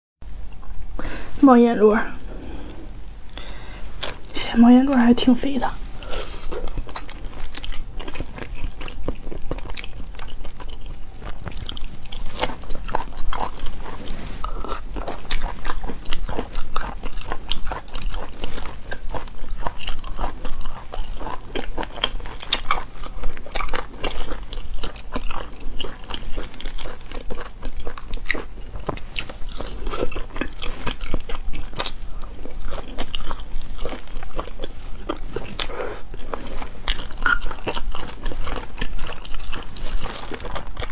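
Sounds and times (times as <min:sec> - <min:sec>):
chewing with mouth clicks: 0:02.6 - 0:05.1, 0:05.9 - 0:40.9.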